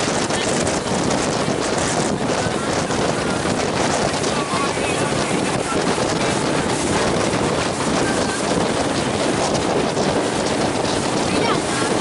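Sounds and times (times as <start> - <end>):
water rushing past boat hull: 0.0 - 12.0
wind buffeting microphone: 0.0 - 12.0.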